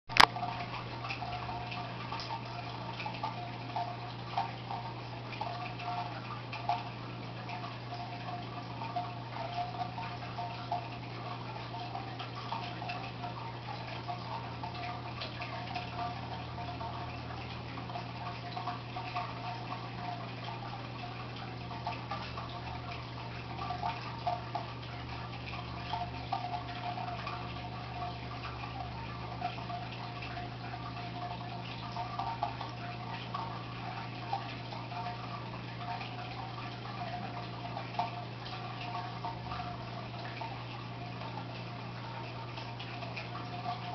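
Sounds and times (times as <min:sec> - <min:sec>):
aquarium pump hum: 0:00.1 - 0:43.9
water trickling and dripping: 0:00.1 - 0:43.9.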